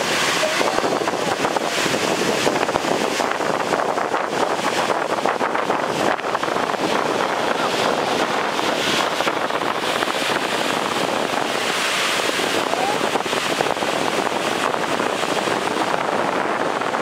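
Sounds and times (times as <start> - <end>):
waterfall roaring: 0.0 - 17.0
wind buffeting microphone: 0.0 - 17.0.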